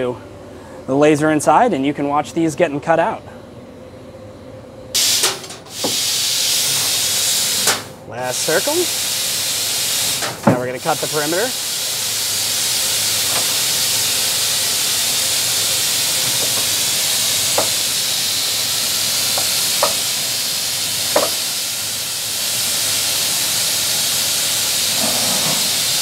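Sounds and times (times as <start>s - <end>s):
laser cutter gas hiss: 5.0s - 26.0s.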